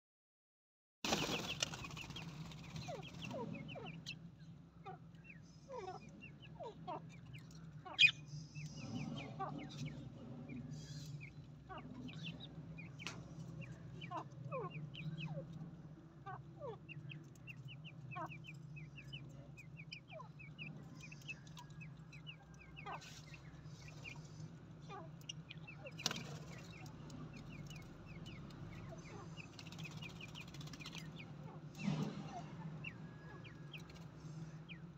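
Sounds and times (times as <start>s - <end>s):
budgerigars chirping: 1.1s - 15.6s, 16.2s - 34.9s
low steady hum: 1.1s - 34.9s.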